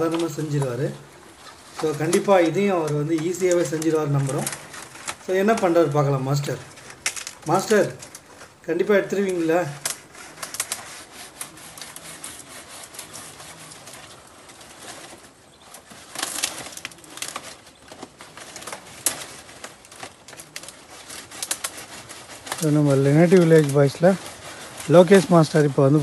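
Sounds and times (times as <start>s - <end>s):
dry palm fronds crackling: 0.0s - 26.0s.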